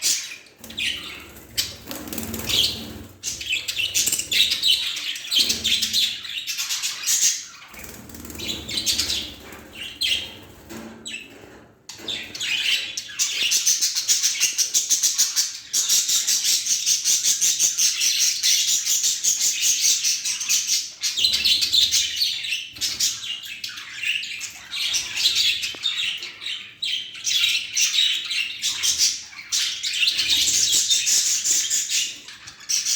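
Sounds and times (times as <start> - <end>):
budgerigars chattering and chirping: 0.0 - 11.3, 12.0 - 32.9.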